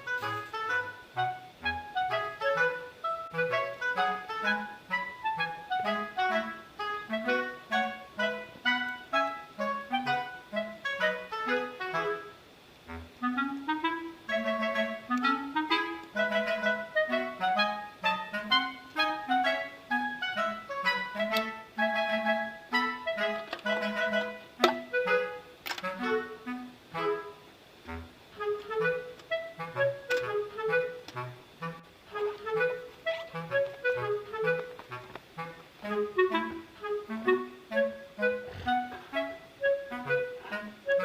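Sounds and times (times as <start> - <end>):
clarinet-like melody: 0.0 - 41.0.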